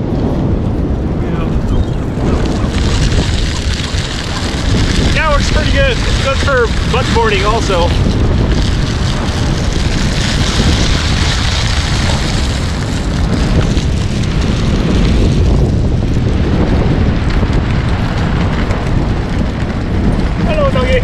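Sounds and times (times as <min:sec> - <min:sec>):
skateboard wheels rolling on asphalt: 0:00.0 - 0:21.0
wind buffeting microphone: 0:00.0 - 0:21.0.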